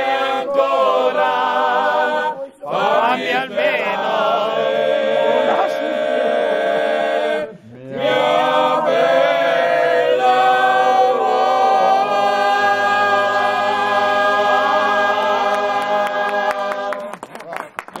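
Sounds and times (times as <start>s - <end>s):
men and women singing: 0.0s - 17.1s.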